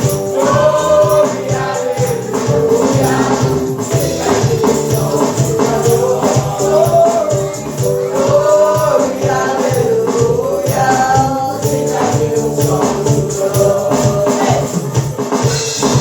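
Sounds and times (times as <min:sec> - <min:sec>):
band with steady beat: 0:00.0 - 0:16.0
shaken tambourine: 0:00.0 - 0:16.0
voices singing together: 0:00.0 - 0:16.0.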